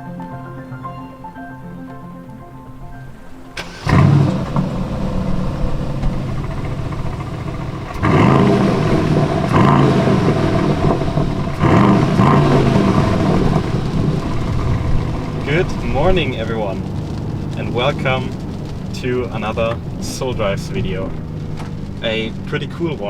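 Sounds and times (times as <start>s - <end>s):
car engine revving loudly: 3.6s - 23.0s.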